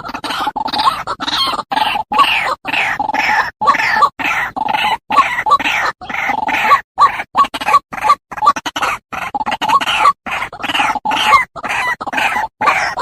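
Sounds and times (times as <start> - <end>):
bird harsh croaking calls: 0.0 - 13.0.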